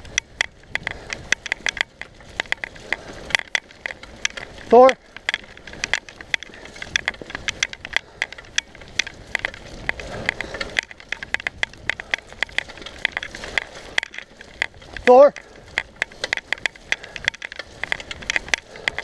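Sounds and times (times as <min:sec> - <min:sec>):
bike tyres on dirt trail: 0:00.0 - 0:19.0
sharp clicks and rattles: 0:00.0 - 0:19.0.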